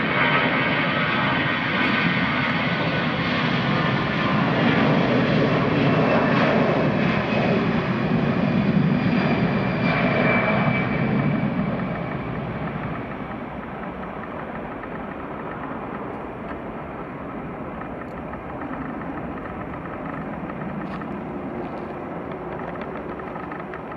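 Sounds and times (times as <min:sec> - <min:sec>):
distant jet engine rumble: 0:00.0 - 0:23.9.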